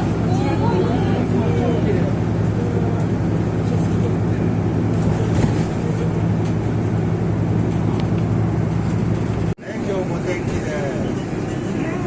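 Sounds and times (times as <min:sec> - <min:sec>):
road vehicle droning: 0:00.0 - 0:12.0.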